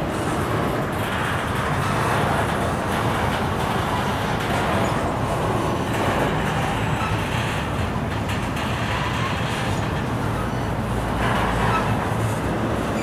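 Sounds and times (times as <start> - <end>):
freight train wheels on rail: 0.0 - 13.0.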